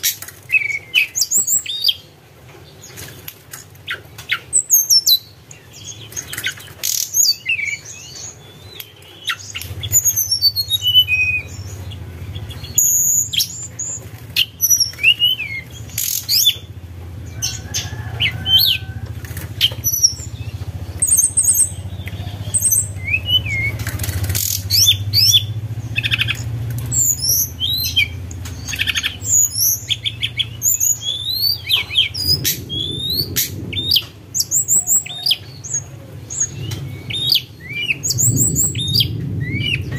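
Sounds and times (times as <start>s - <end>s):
bird singing whistled notes: 0.0s - 2.0s, 4.3s - 16.7s, 19.6s - 39.9s.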